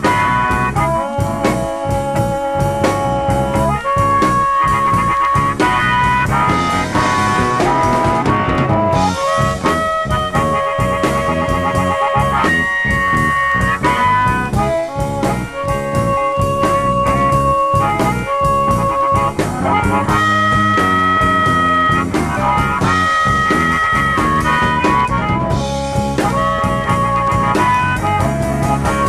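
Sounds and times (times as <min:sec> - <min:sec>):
electric blues band: 0:00.0 - 0:29.0
harmonica: 0:00.0 - 0:29.0.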